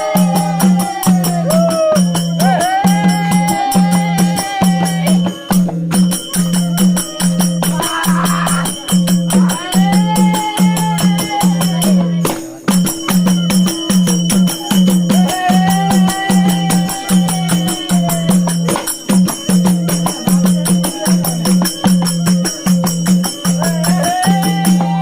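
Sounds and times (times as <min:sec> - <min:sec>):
flute melody: 0:00.0 - 0:12.2, 0:13.0 - 0:22.7
jingling percussion: 0:00.0 - 0:25.0
steady drum beat: 0:00.0 - 0:25.0.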